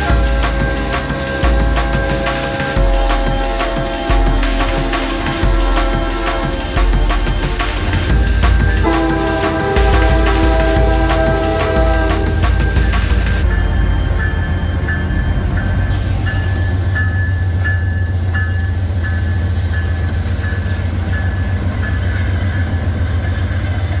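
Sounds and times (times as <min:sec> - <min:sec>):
high ringing tone: 0:00.0 - 0:23.5
train rumbling past: 0:00.0 - 0:24.0.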